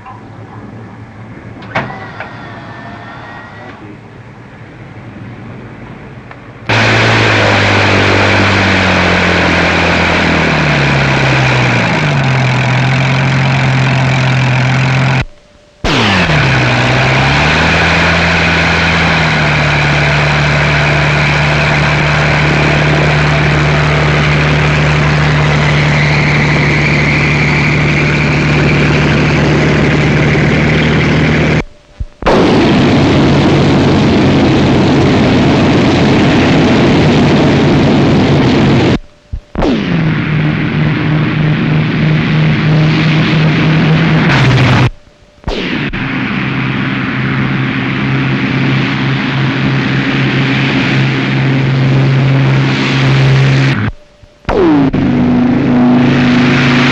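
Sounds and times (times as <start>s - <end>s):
piston aircraft engines running: 0.0s - 56.9s.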